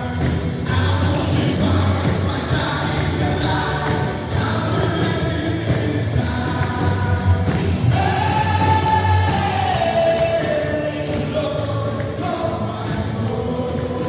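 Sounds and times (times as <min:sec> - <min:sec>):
gospel choir singing with band: 0:00.0 - 0:14.0.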